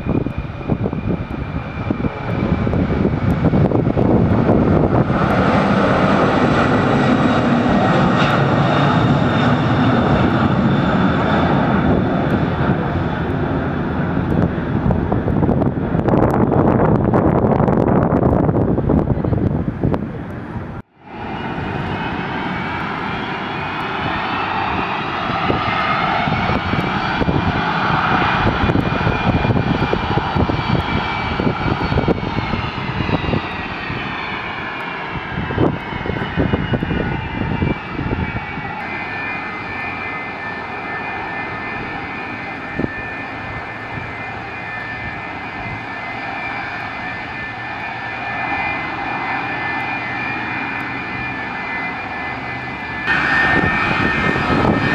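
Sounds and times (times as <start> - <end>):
jet engines whining: 0.0 - 54.9
wind buffeting microphone: 0.0 - 54.9.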